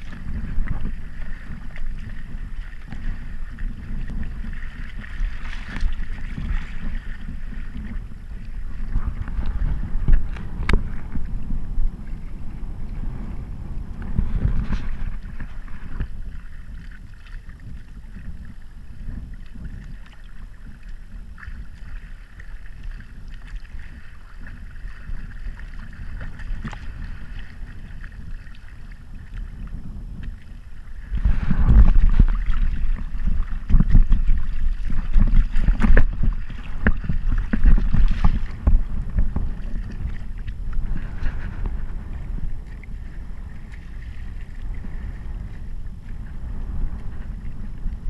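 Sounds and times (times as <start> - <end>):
choppy water slapping hull: 0.0 - 48.0
wind buffeting microphone: 0.0 - 48.0.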